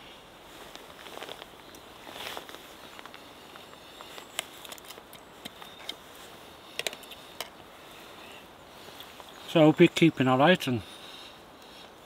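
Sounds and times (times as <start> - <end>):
faint woodland hiss: 0.0 - 12.0.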